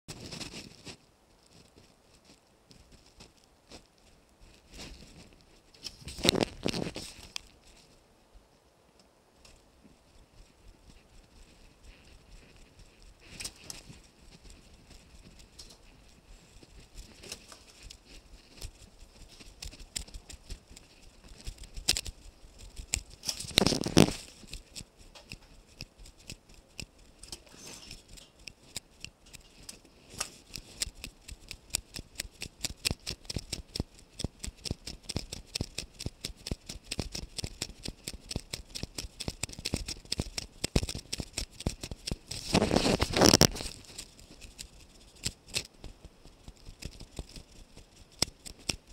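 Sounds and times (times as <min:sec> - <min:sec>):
footsteps clicking and tapping: 0:09.4 - 0:48.9.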